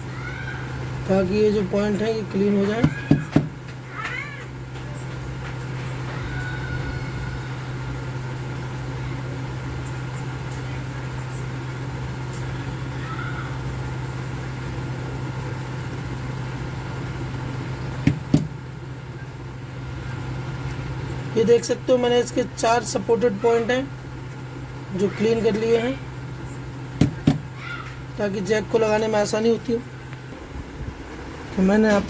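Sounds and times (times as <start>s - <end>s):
hot air station blowing: 5.0s - 32.0s.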